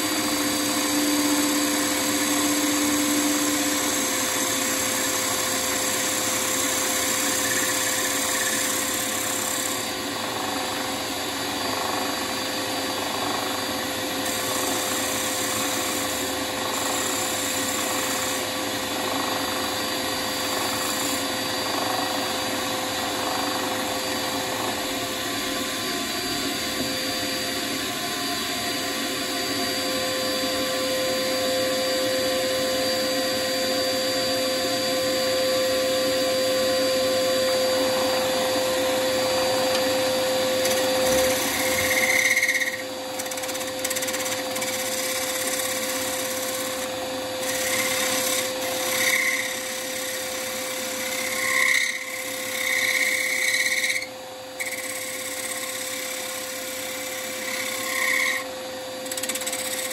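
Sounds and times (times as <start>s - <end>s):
tool hissing on spinning wood: 0.0s - 25.0s, 30.3s - 59.9s
wood lathe motor hum: 0.0s - 59.9s.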